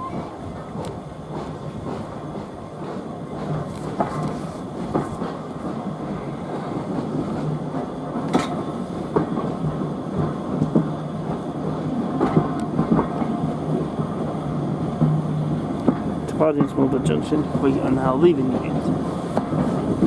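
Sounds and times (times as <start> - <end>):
railway carriage rumble: 0.0 - 20.0
wheels clicking over rails: 0.2 - 20.0.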